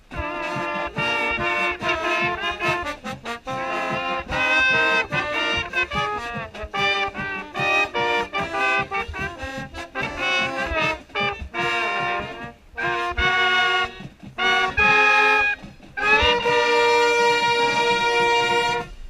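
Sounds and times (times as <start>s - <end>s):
marching band brass: 0.0s - 19.0s
mellophone playing: 0.2s - 19.0s.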